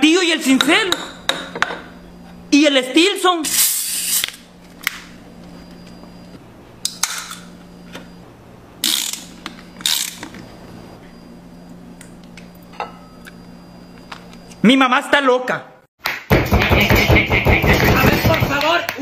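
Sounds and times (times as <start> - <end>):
faint steady hum: 0.0 - 15.8.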